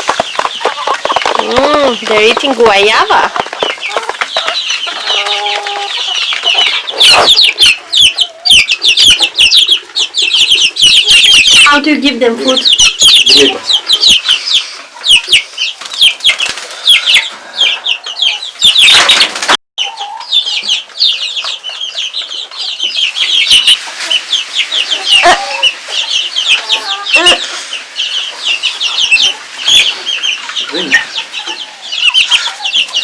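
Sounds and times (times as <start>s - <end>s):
high chirping calls: 0.0s - 19.2s, 19.8s - 33.0s
chickens clucking: 0.0s - 33.0s.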